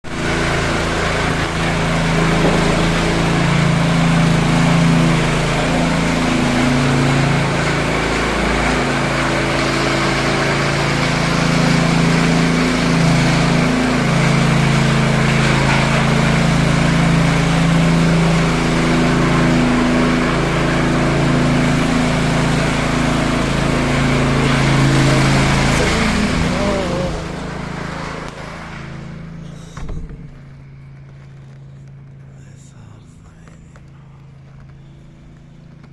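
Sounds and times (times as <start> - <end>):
motor-driven machine humming: 0.1 - 35.9.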